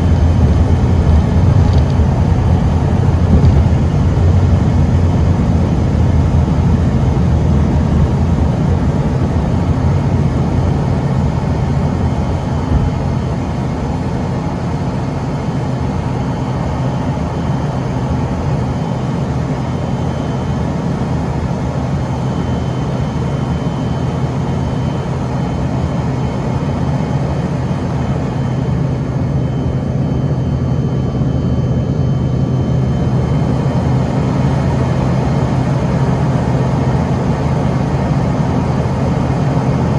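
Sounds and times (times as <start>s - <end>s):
jet engine noise in cabin: 0.0s - 39.9s.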